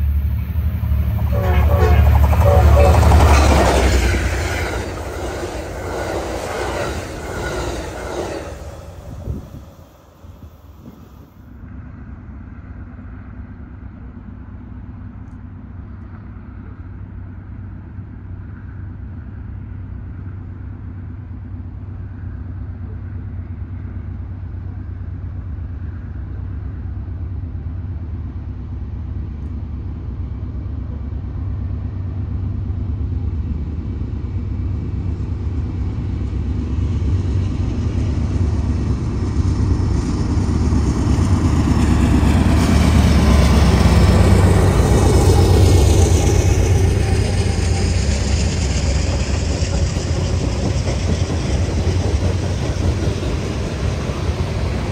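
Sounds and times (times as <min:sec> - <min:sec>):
freight train engine rumble: 0:00.0 - 0:54.9.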